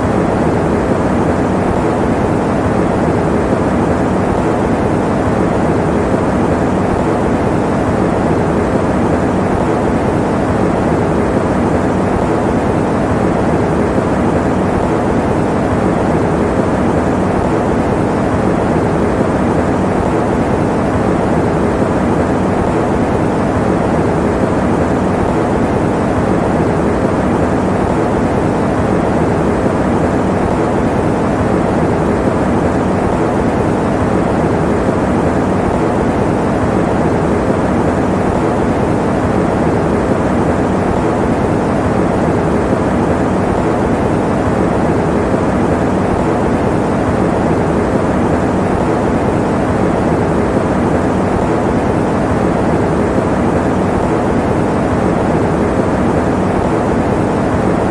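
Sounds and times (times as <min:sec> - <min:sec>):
electric fan whooshing: 0:00.0 - 0:57.9.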